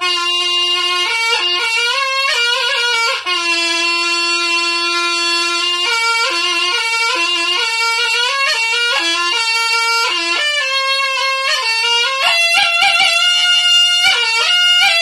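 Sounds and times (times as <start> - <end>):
reedy shawm melody: 0.0 - 15.0.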